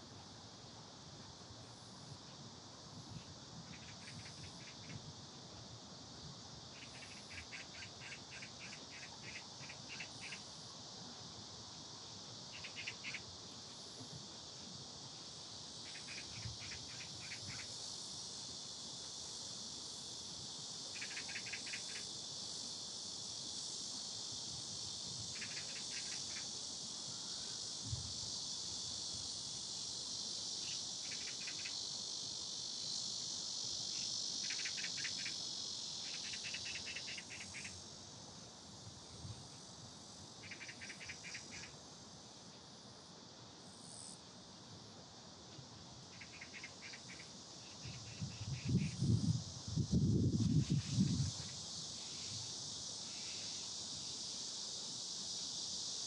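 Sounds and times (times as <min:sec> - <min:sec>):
cicadas buzzing: 0:00.0 - 0:56.0
insect pulsed chirping: 0:00.0 - 0:56.0.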